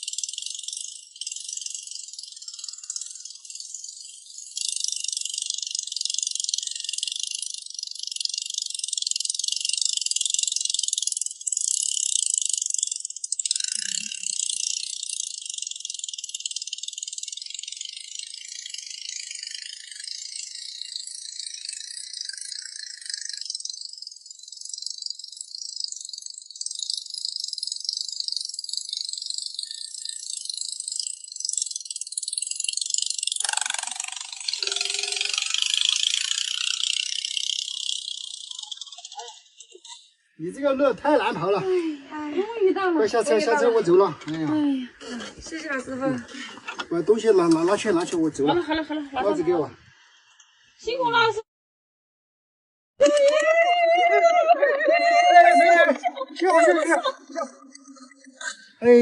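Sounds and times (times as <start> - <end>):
high-pitched insect buzzing: 0.0 - 46.2, 47.0 - 51.4, 53.0 - 59.0.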